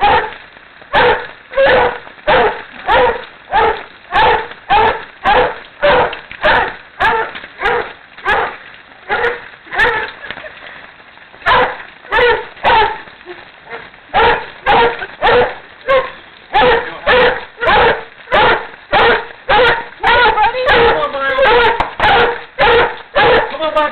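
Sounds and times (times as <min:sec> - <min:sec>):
dog barking: 0:00.0 - 0:10.1, 0:11.4 - 0:13.1, 0:13.7 - 0:23.6.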